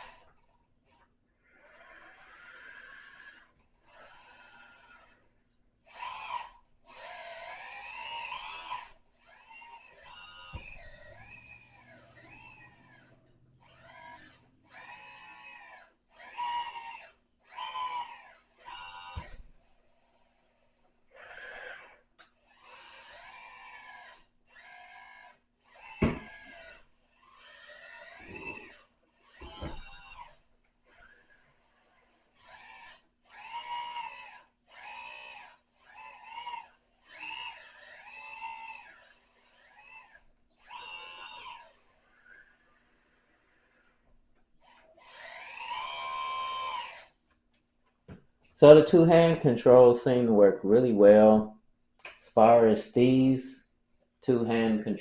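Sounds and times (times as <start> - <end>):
whining hydraulic excavator motor: 0.0 - 47.4.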